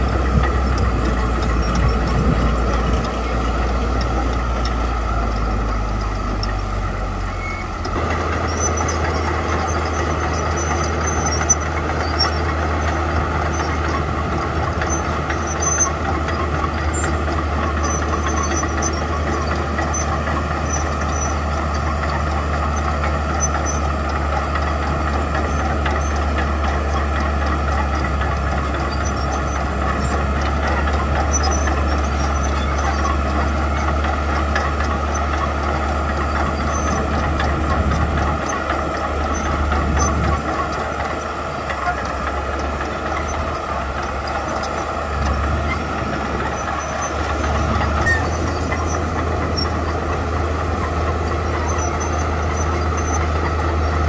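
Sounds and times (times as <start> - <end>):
bulldozer diesel drone: 0.0 - 54.0.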